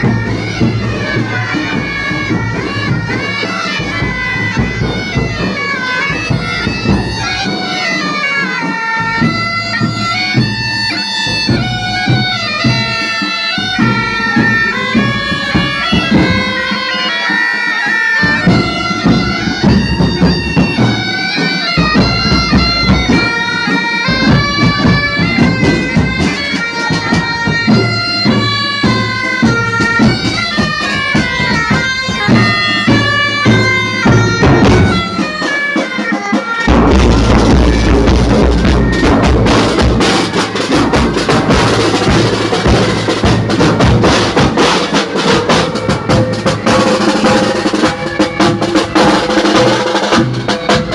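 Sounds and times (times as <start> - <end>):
drums: 0.0 - 50.9
reed pipe melody: 0.0 - 50.9.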